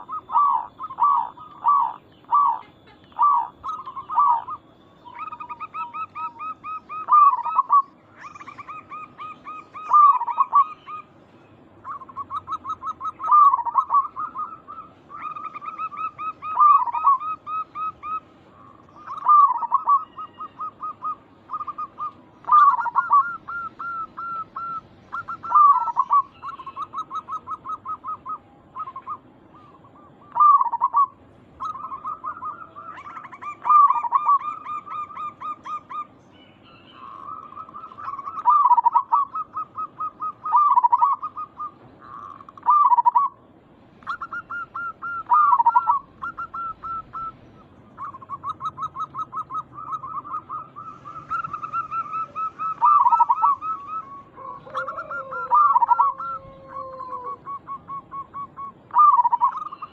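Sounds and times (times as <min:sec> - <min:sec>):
dove cooing: 0:00.0 - 0:11.2, 0:11.8 - 0:43.4, 0:44.0 - 0:59.9.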